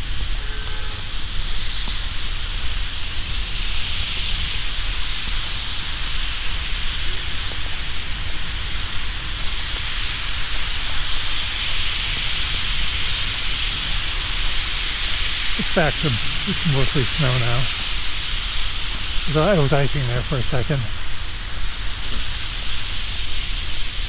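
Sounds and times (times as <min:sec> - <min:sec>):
sleet hissing: 0:00.0 - 0:24.0
wind rumble on microphone: 0:00.0 - 0:24.0.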